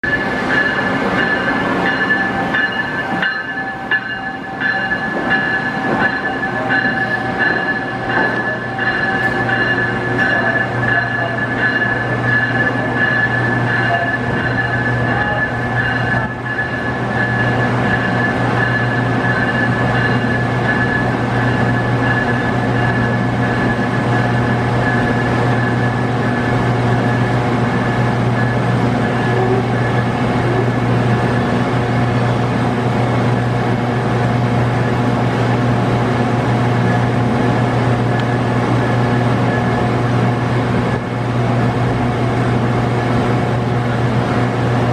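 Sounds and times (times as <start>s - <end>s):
locomotive mechanical hum with whine: 0.0s - 44.9s.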